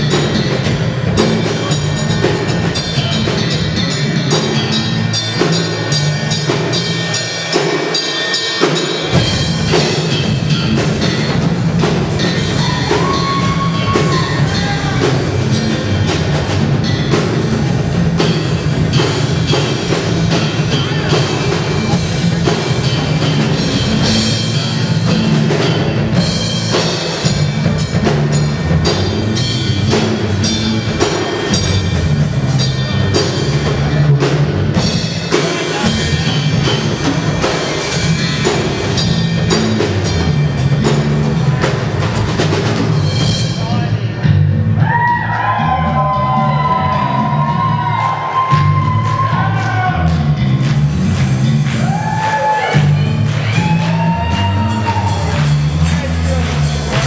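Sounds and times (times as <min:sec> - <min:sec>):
deep bass: 0:00.0 - 0:07.4, 0:09.0 - 0:57.0
drum kit: 0:00.0 - 0:57.0.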